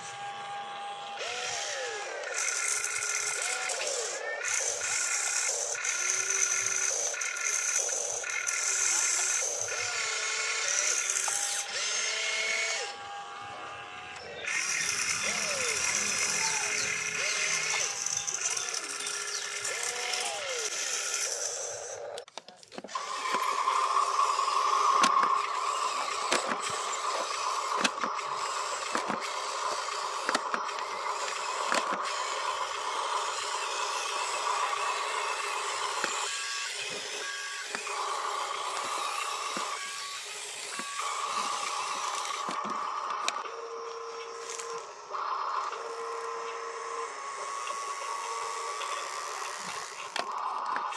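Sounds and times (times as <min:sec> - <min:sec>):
electric motor and gear whine: 0:00.0 - 0:50.9.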